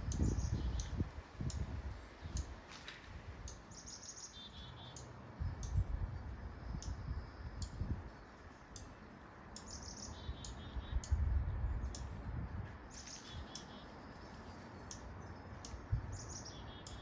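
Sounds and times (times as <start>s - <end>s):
bird twittering trills: 0.0s - 17.0s
low wind rumble: 0.0s - 17.0s
small birds chirping: 0.0s - 17.0s.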